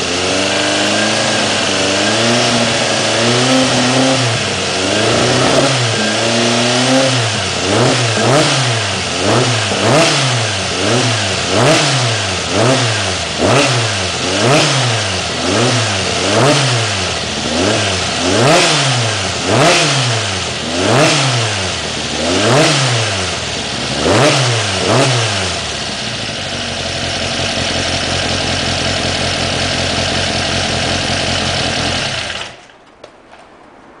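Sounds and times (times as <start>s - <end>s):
car engine revving and idling: 0.0s - 32.6s.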